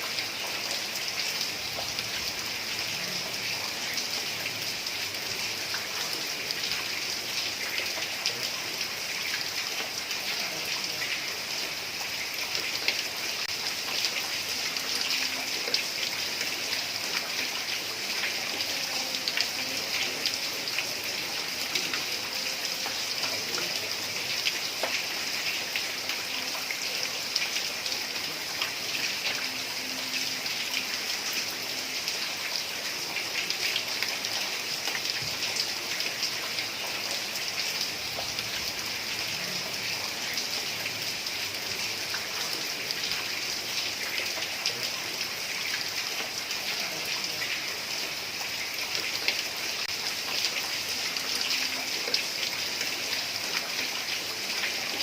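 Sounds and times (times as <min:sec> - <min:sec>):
heavy rain on a tiled roof: 0:00.0 - 0:55.0.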